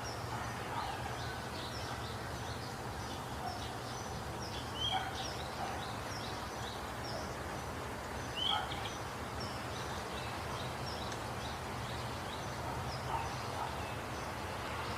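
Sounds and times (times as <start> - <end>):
birds chirping: 0.0 - 14.9
steady background hiss: 0.0 - 14.9.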